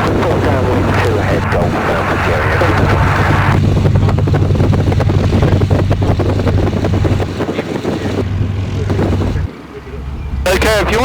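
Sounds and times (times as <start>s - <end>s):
radial engine droning: 0.0s - 11.0s.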